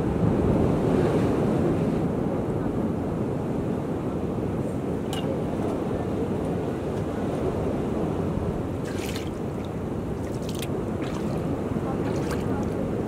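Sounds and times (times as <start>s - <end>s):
surf rumbling: 0.0s - 13.0s
wind: 0.0s - 13.0s.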